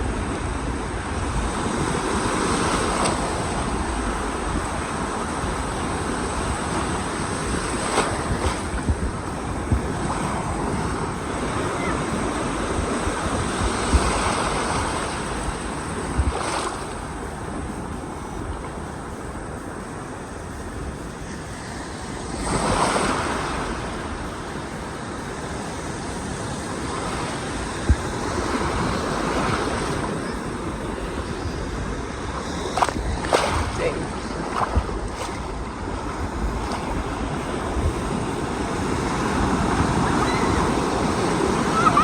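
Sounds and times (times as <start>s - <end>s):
ocean surf washing: 0.0s - 42.0s
wind buffeting microphone: 0.0s - 42.0s.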